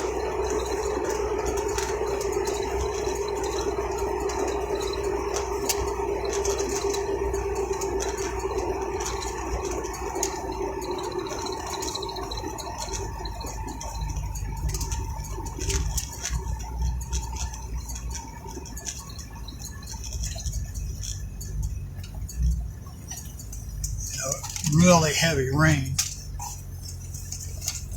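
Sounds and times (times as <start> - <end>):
clicks and rattles: 0.0 - 27.9
road rumble inside car: 0.0 - 27.9.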